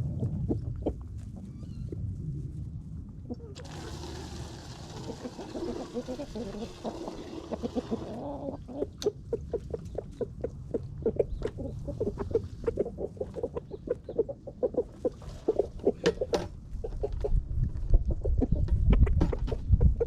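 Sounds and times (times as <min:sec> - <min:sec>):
hens clucking: 0:03.3 - 0:20.0.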